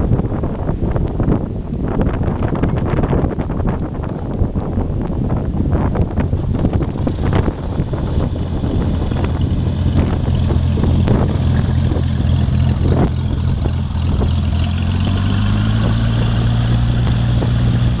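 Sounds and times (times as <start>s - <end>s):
propeller plane engine humming: 0.0s - 18.0s.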